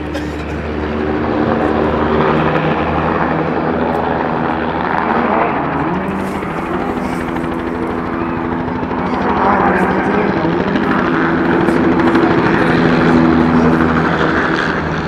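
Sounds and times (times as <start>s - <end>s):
helicopter flying low past: 0.0s - 15.0s.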